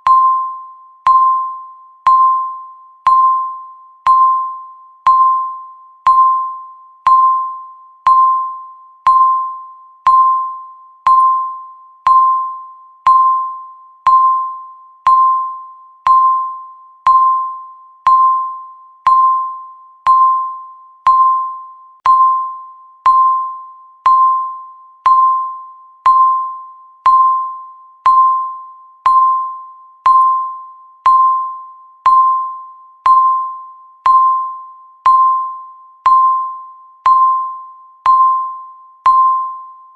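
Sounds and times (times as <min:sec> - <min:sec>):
electronic timer beeps: 0:00.0 - 0:39.9.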